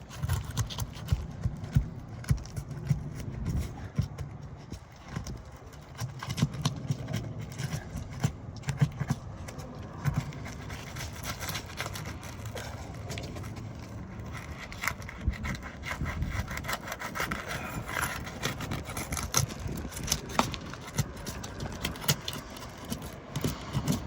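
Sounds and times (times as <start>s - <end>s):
shingles being pried loose: 0.0s - 24.0s.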